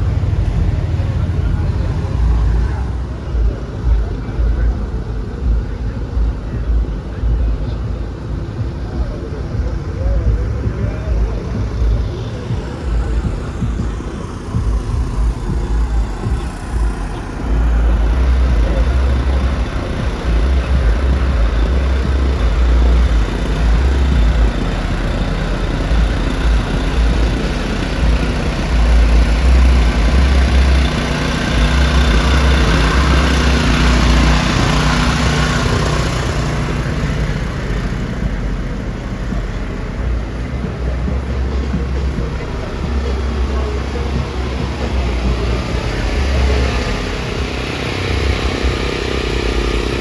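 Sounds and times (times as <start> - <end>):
car engine rumbling: 0.0 - 50.0.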